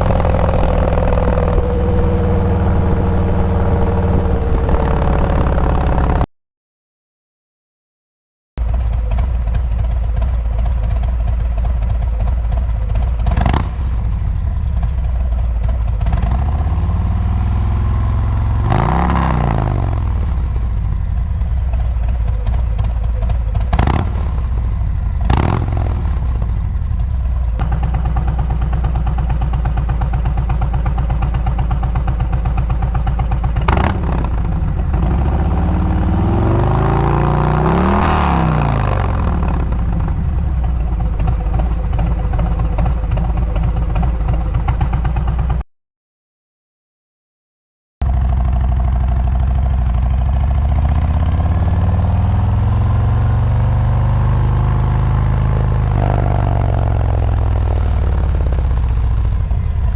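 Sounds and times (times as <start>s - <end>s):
motorcycle engine revving: 0.0s - 6.3s, 8.6s - 45.6s, 48.0s - 59.9s.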